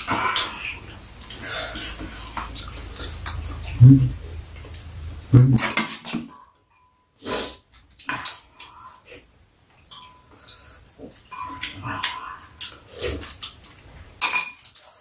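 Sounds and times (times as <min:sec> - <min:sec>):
people eating soup: 0:00.0 - 0:06.0, 0:07.2 - 0:13.9.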